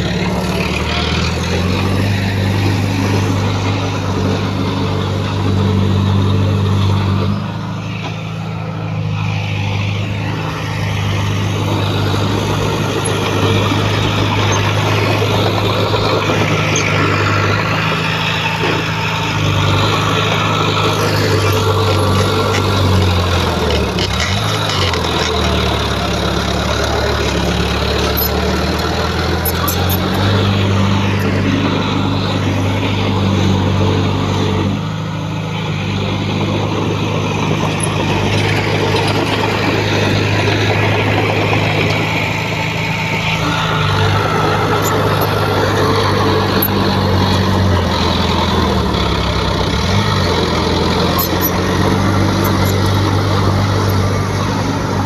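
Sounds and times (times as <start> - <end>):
earthmover diesel engine working: 0.0 - 55.0.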